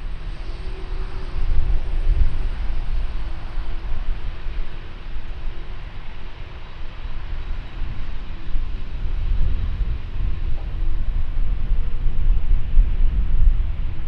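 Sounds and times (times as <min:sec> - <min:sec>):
jet engine rumble: 0:00.0 - 0:14.0
wind buffeting microphone: 0:00.0 - 0:14.0.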